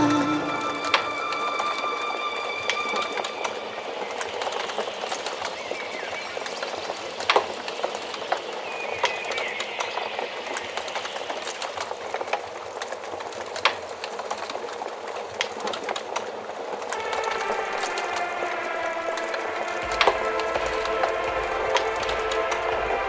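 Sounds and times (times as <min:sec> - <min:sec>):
wood fire crackling: 0:00.9 - 0:23.0.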